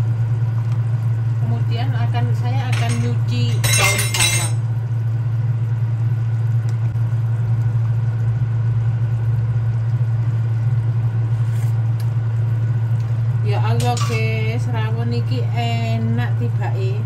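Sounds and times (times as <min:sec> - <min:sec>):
kitchen appliance humming: 0:00.0 - 0:17.0
stew boiling in a pot: 0:00.0 - 0:17.0.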